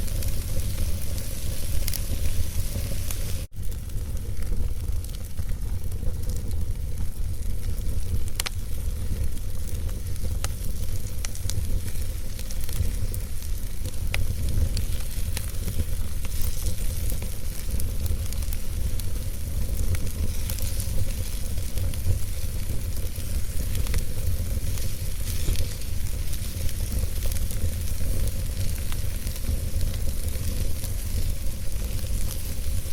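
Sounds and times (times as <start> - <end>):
logs crackling in fireplace: 0.0 - 32.9.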